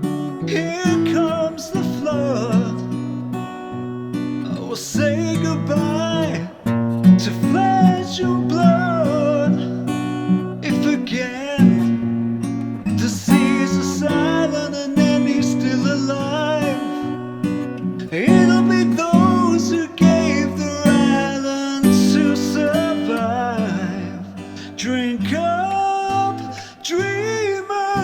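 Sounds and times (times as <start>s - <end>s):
person singing: 0.0s - 12.1s, 12.9s - 28.0s
acoustic guitar strumming: 0.0s - 28.0s.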